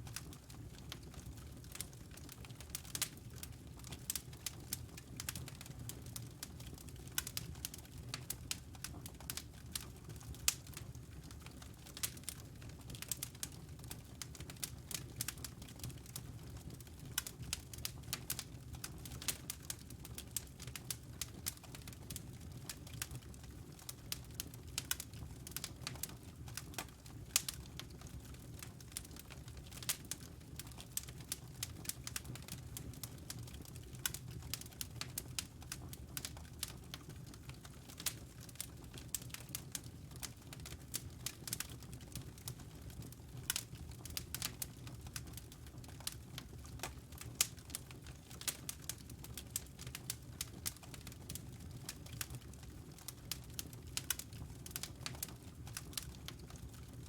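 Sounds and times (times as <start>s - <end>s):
low rumble of flames: 0.0s - 57.0s
burning logs snapping and popping: 0.1s - 56.9s.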